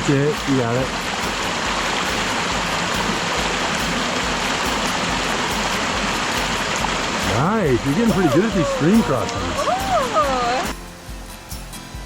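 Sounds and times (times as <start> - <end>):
stream water running: 0.0 - 10.9.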